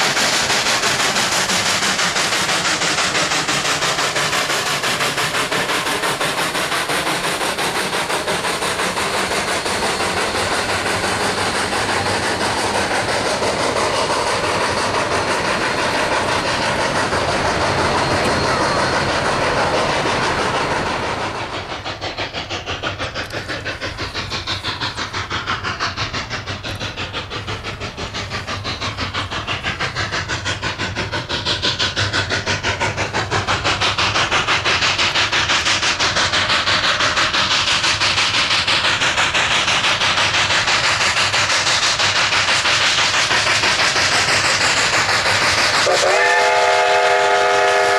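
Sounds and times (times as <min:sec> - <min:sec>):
steam hissing: 0:00.0 - 0:47.9
steam locomotive exhaust chuffing: 0:00.0 - 0:47.9.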